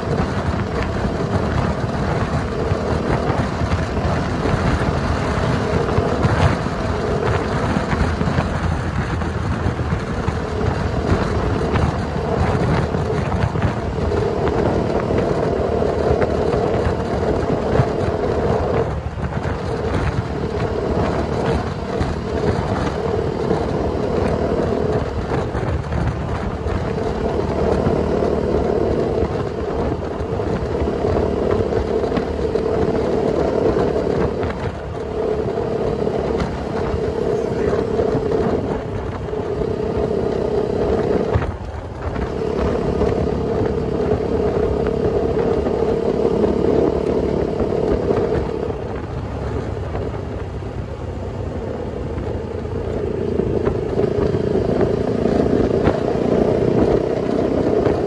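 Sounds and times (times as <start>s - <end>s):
motorcycle engine cruising: 0.0s - 58.0s
road noise: 0.0s - 58.0s
wind noise: 0.0s - 58.0s.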